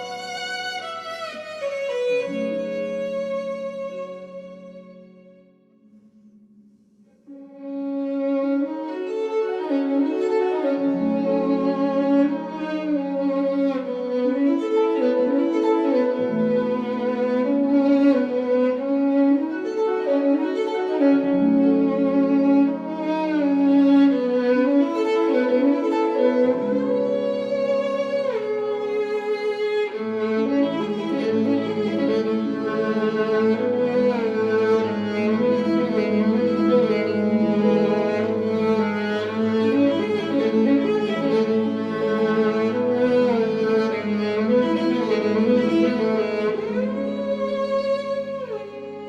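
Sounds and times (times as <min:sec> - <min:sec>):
violin and cello playing: 0:00.0 - 0:05.5, 0:07.3 - 0:49.0.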